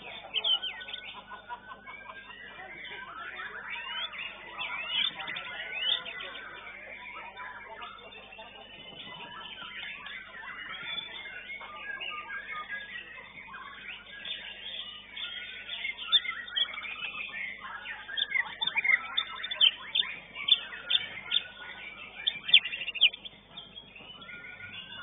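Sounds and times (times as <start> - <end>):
songbird singing chirps and whistles: 0.0 - 25.0.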